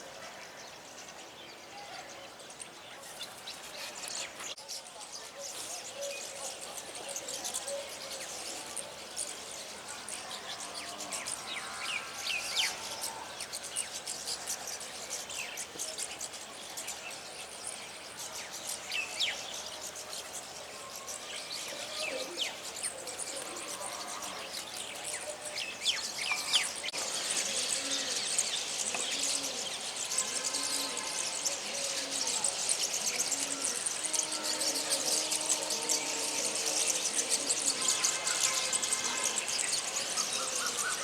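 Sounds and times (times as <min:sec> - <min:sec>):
high background hiss: 0:00.0 - 0:41.0
small songbirds chirping: 0:00.0 - 0:41.0.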